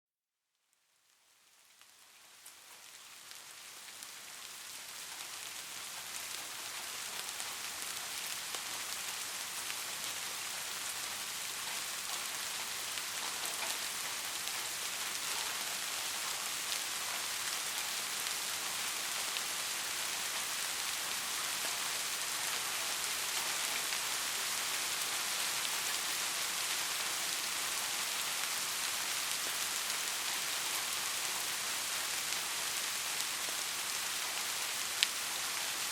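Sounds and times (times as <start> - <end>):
steady rain falling: 0.8 - 35.9.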